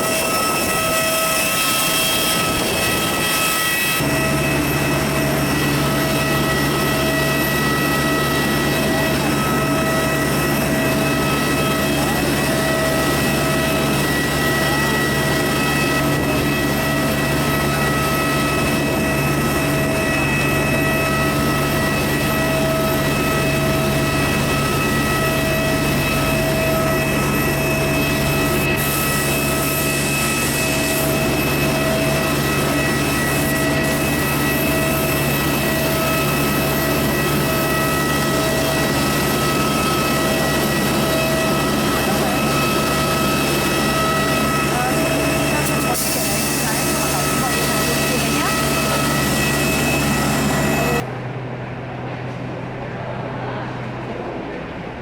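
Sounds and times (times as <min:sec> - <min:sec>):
jet engines idling: 0:00.0 - 0:55.0
steady whining tones: 0:00.0 - 0:55.0.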